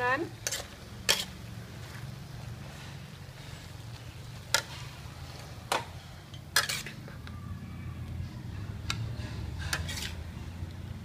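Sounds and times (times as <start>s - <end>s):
metal spatula scraping a wok: 0.0s - 7.3s, 8.6s - 11.0s.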